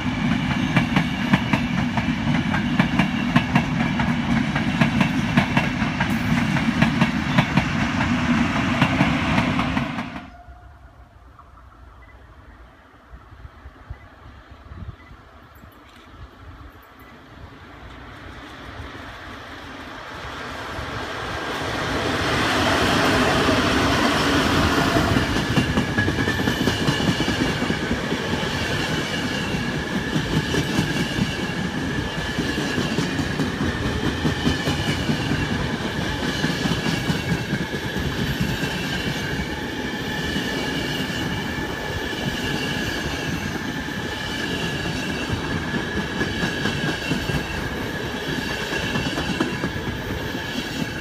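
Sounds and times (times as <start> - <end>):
electric locomotives passing: 0.0 - 51.0.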